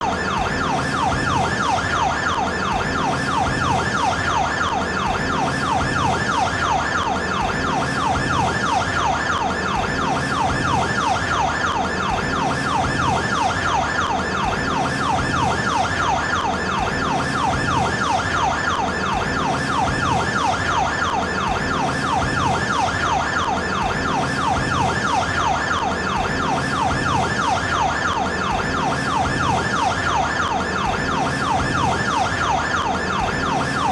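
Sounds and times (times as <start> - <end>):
emergency siren wailing: 0.0 - 33.9
low pulsing siren tone: 0.0 - 33.9.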